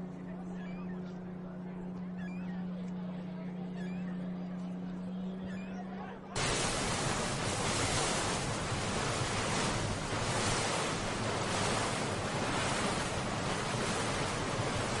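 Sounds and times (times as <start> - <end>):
waves: 0.0 - 15.0
wind: 0.0 - 15.0.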